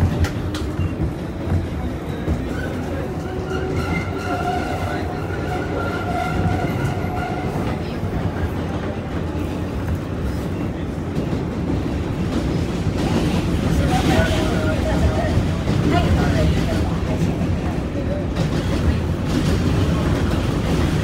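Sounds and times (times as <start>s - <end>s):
train rumble from inside: 0.0s - 21.0s.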